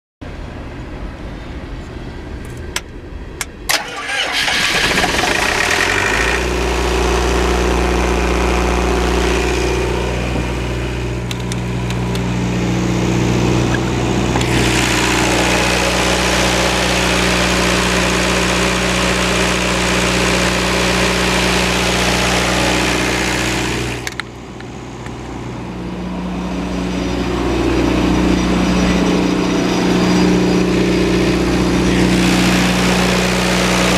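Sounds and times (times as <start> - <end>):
diesel engine cranking and running: 3.4 - 33.9.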